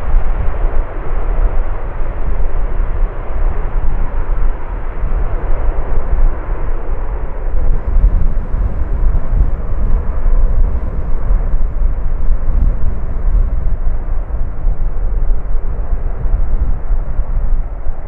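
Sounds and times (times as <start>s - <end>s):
jet engines rumbling: 0.0s - 18.0s
wind buffeting the microphone: 0.0s - 18.0s.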